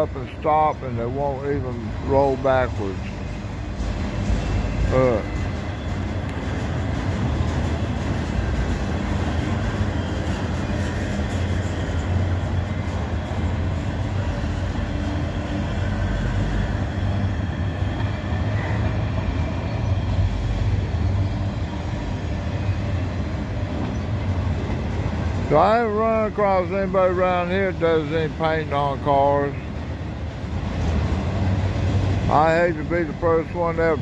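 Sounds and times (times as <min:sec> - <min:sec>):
freight train wheels on rail: 0:00.0 - 0:34.0.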